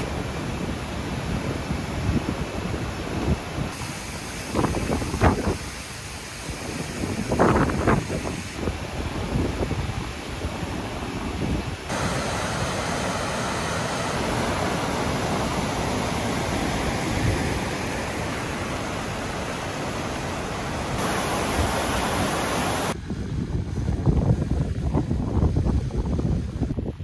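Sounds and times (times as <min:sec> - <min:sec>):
churning white water rushing: 0:00.0 - 0:23.0
wind rumble on microphone: 0:00.0 - 0:27.0.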